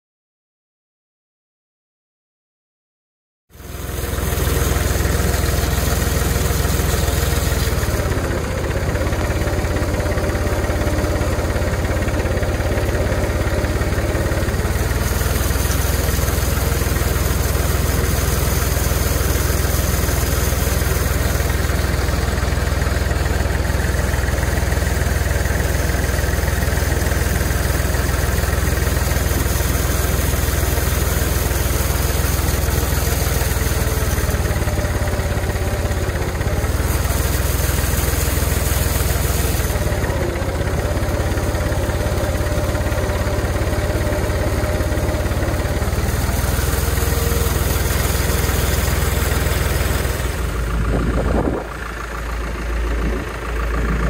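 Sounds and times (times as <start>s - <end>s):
engine idling: 3.5s - 54.0s.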